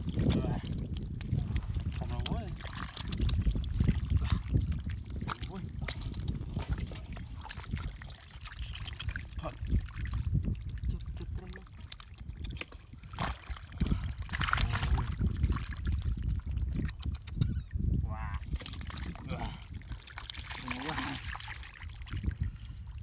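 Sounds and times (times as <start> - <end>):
muddy water splashing: 0.0 - 23.0.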